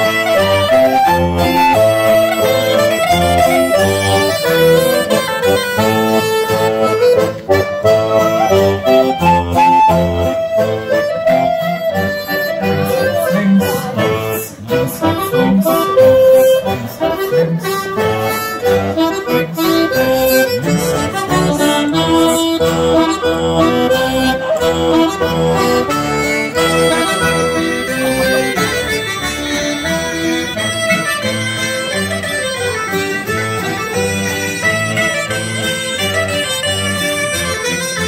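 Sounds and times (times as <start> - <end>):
accordion folk dance tune: 0.0 - 38.0.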